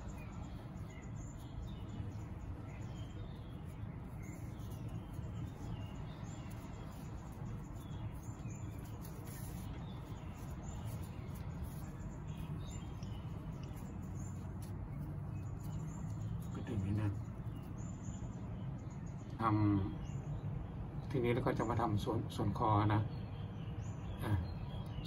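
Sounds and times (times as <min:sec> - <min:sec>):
low background hum: 0:00.0 - 0:25.0
small birds chirping: 0:00.0 - 0:25.0.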